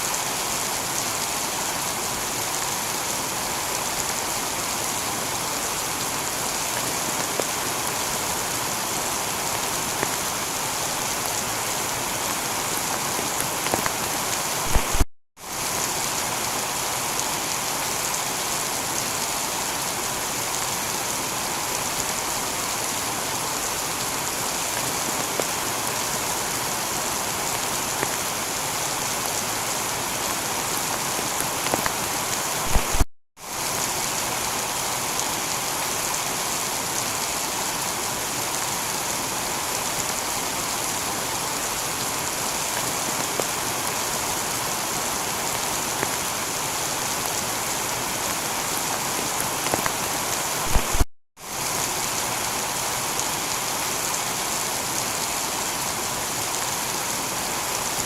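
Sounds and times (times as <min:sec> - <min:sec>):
heavy rain on tiled roof: 0:00.0 - 0:58.0.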